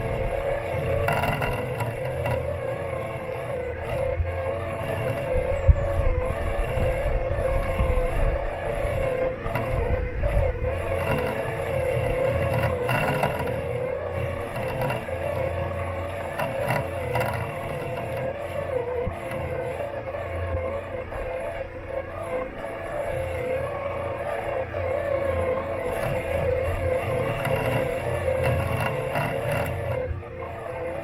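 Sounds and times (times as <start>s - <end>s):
robot lawn mower motor whine: 0.0s - 31.0s.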